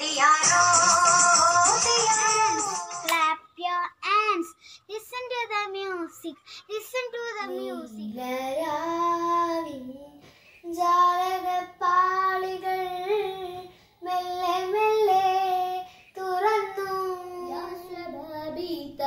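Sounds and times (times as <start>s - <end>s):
girl singing: 0.0s - 19.0s.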